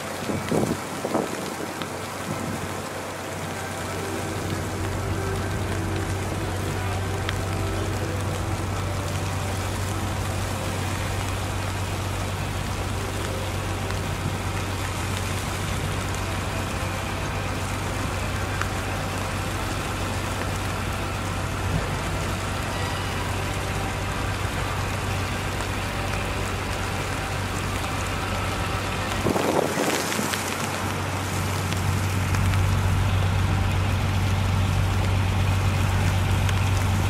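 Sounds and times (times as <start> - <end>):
traffic engines humming: 0.0 - 37.0
tyres hissing through slush: 0.0 - 37.0.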